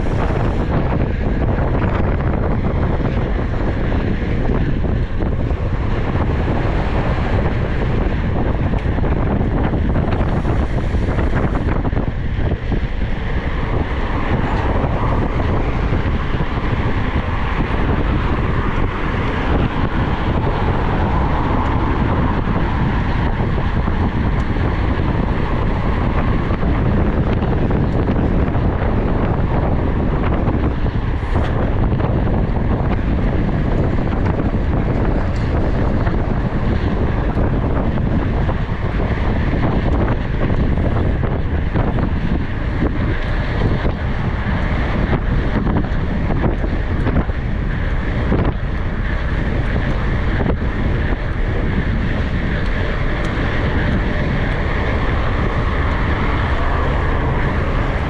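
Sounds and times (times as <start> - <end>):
vehicle noise: 0.0 - 58.0
wind rumble on microphone: 0.0 - 58.0.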